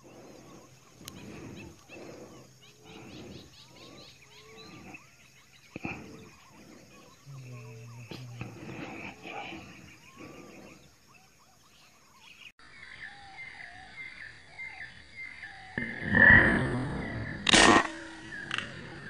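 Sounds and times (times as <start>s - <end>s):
birds whistling gliding notes: 0.0s - 19.0s
faint high chirping: 0.0s - 19.0s.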